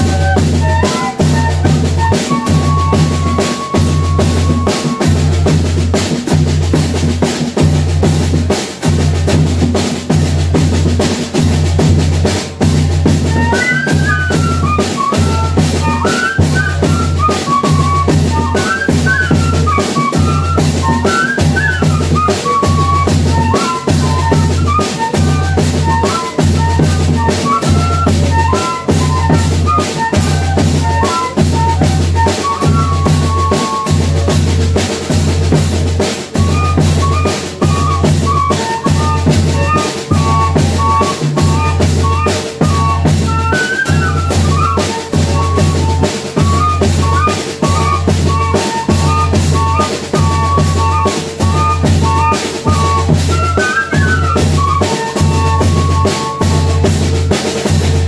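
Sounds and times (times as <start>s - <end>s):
snare drum: 0.0s - 58.0s.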